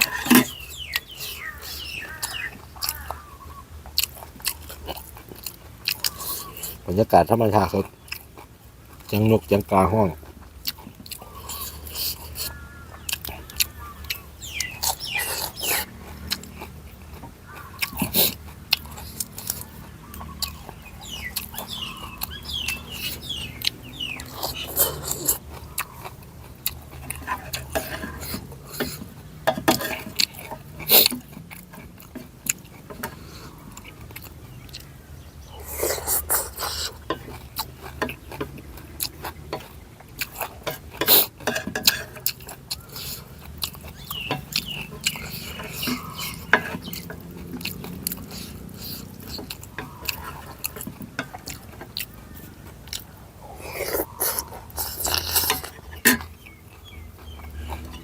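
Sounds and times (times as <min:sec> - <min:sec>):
birds chirping: 0:00.0 - 0:58.0
chewing food close up: 0:00.0 - 0:58.0.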